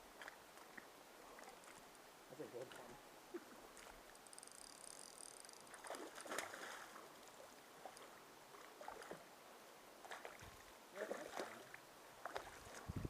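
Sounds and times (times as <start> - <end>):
water splashes: 0.0 - 4.2, 5.6 - 9.3, 10.0 - 13.0
stream running over rocks: 0.0 - 4.4, 5.6 - 13.0.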